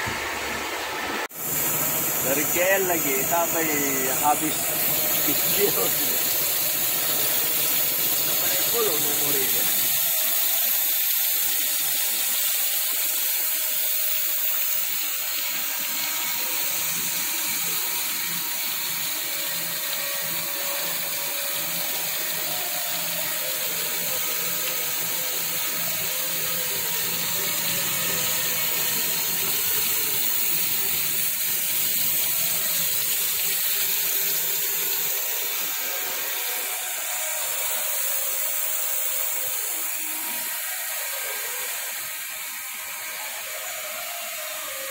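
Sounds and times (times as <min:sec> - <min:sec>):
coolant hissing and splashing: 0:00.0 - 0:44.9
grinding machine running: 0:00.0 - 0:44.9.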